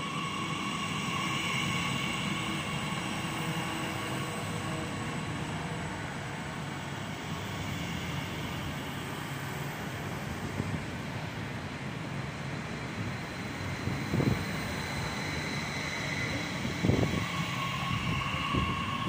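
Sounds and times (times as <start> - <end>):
train motor and rolling hiss: 0.0 - 19.0
train wheels rumbling on rails: 0.0 - 19.0.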